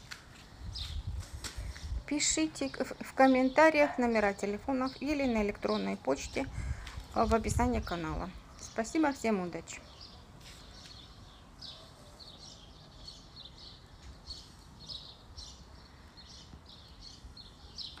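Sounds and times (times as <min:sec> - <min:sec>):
small birds chirping: 0:00.3 - 0:18.0.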